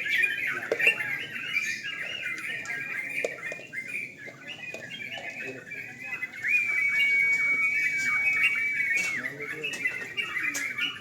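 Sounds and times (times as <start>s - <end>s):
bulbuls singing in chorus: 0.0s - 11.0s.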